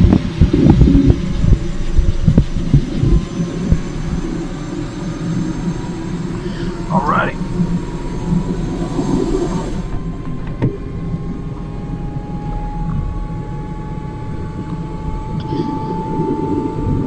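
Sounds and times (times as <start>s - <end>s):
helicopter turbine and rotor: 0.0s - 17.0s.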